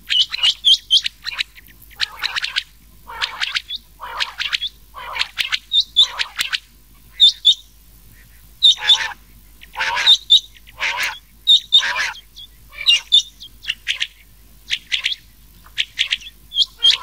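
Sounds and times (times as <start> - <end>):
quail calls: 0.1 - 17.0.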